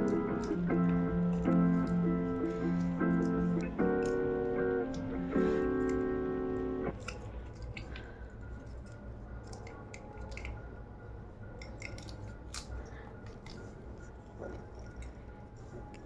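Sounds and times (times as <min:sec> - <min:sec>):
piano music: 0:00.0 - 0:16.0
steady low hum: 0:00.0 - 0:16.0.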